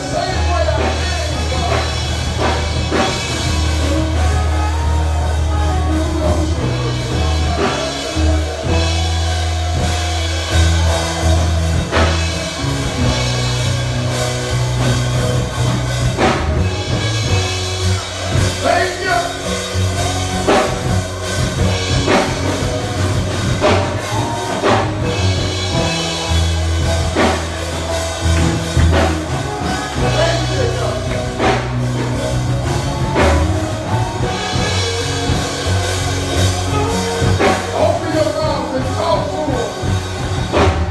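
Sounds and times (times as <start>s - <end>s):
bass line: 0.0s - 40.9s
drums: 0.0s - 40.9s.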